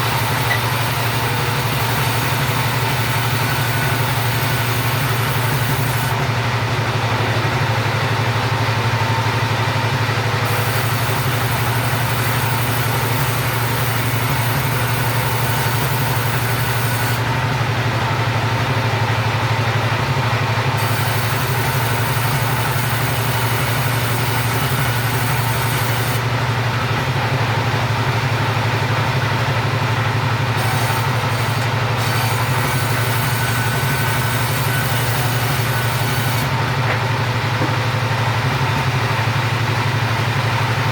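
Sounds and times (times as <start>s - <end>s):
sawing machine engine running: 0.0s - 40.9s.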